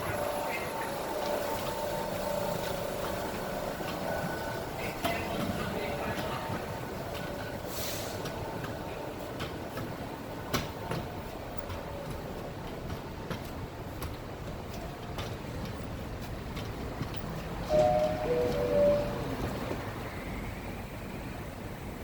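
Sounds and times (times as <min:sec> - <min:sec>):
subway train rumbling: 0:00.0 - 0:22.0.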